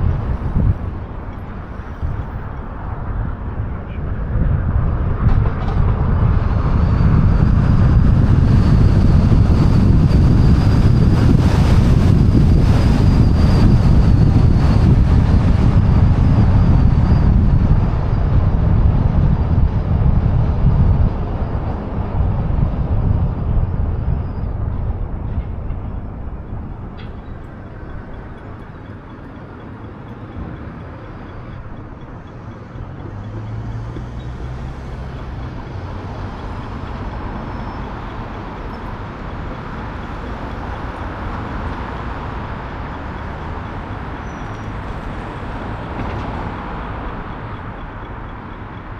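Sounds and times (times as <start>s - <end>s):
road and traffic noise: 0.0s - 48.9s
wind rush: 0.0s - 48.9s.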